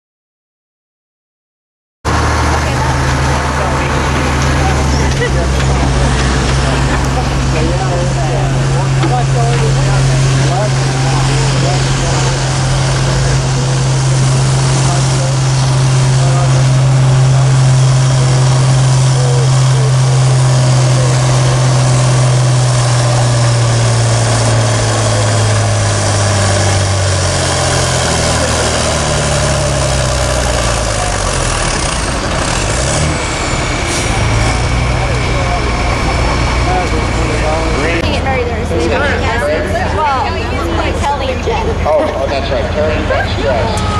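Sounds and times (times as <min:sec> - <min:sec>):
tractor engine revving: 0:02.1 - 0:43.9.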